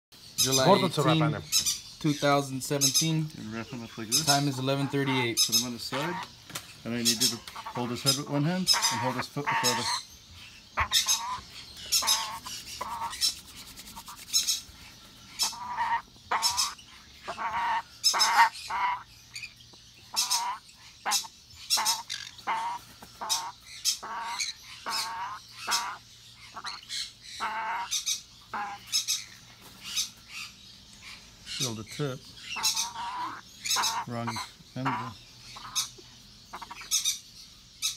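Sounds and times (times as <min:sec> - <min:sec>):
parrot squawking: 0:00.4 - 0:06.4, 0:07.0 - 0:37.9.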